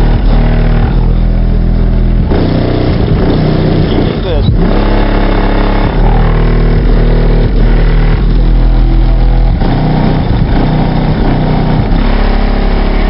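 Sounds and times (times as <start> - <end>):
loud bass-heavy music: 0.0 - 13.0.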